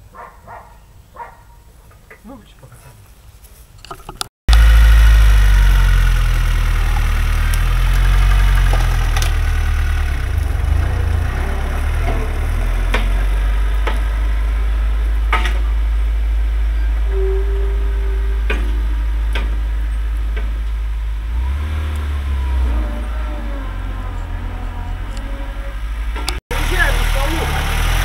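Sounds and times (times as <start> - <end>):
tractor engine running: 4.5 - 28.0.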